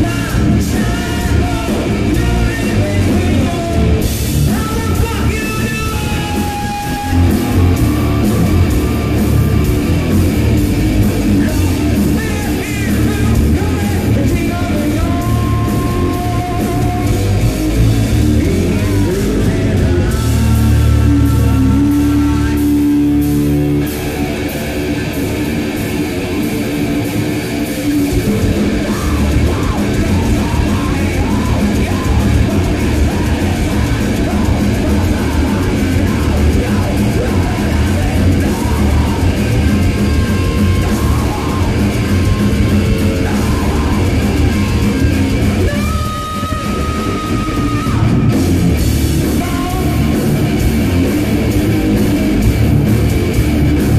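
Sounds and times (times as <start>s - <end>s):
bass guitar: 0.0s - 53.9s
distorted electric guitars: 0.0s - 53.9s
drum kit: 0.0s - 53.9s.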